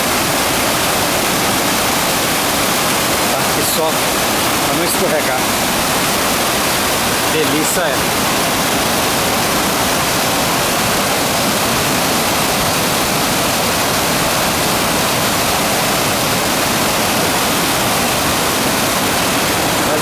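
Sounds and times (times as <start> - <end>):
waterfall pouring: 0.0 - 20.0.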